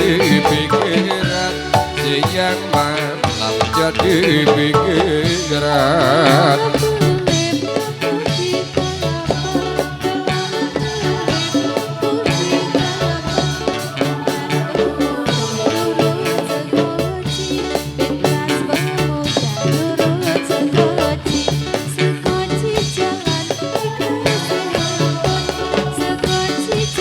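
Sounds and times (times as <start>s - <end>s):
band playing instrumental melody: 0.0s - 27.0s
drum and percussion beat: 0.0s - 27.0s.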